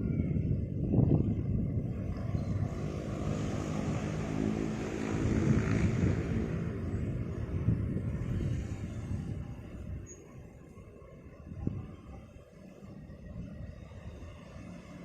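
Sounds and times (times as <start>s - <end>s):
large vehicle engine rumble: 0.0s - 15.0s.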